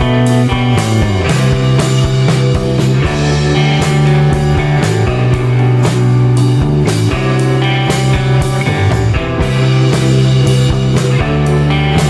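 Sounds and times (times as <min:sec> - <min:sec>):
steady drum beat: 0:00.0 - 0:12.0
sustained bass notes: 0:00.0 - 0:12.0.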